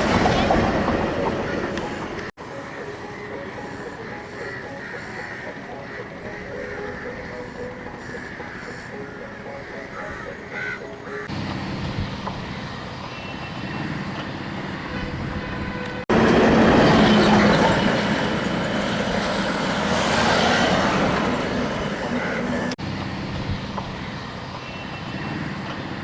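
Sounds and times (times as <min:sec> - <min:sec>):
vehicle rumbling: 0:00.0 - 0:26.0.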